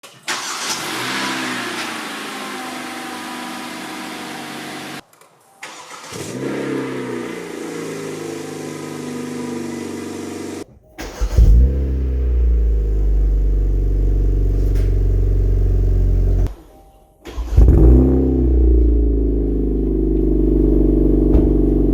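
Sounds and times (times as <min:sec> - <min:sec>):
car engine starting and idling: 0:00.0 - 0:05.0, 0:05.6 - 0:16.5, 0:17.2 - 0:21.9.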